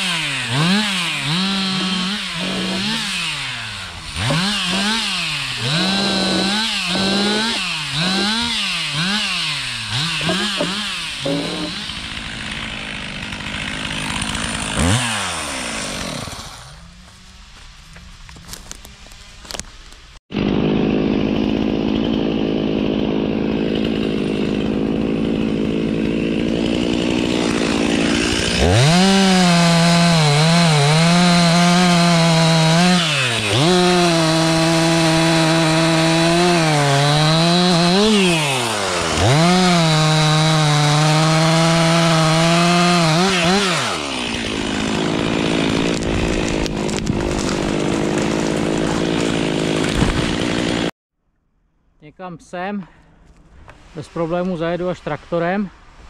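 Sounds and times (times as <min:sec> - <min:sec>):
chainsaw idling and revving: 0:00.0 - 0:17.1, 0:20.3 - 0:51.0.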